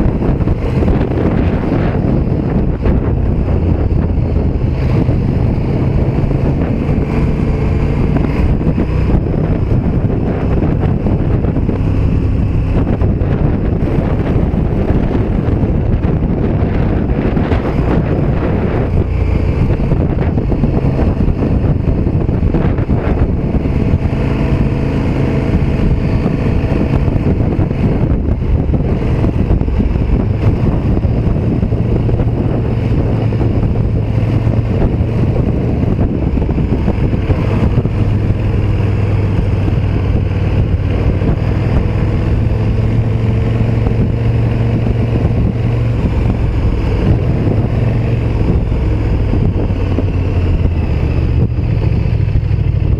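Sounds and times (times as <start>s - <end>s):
motorcycle engine running: 0.0s - 52.9s
wind rushing over microphone: 0.0s - 52.9s.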